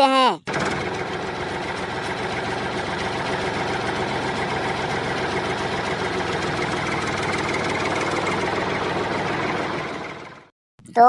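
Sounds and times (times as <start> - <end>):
toy excavator engine drone: 0.5 - 10.4.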